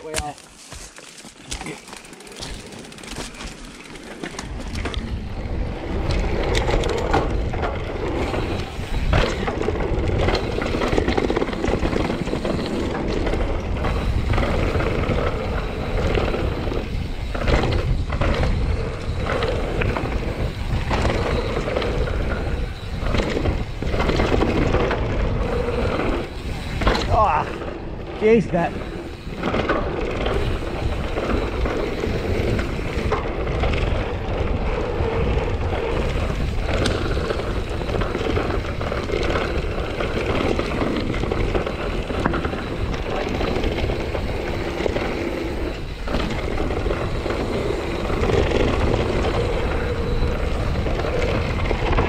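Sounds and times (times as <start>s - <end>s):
bike rattling over bumps: 0.0s - 52.0s
tyre and wind noise: 0.0s - 52.0s.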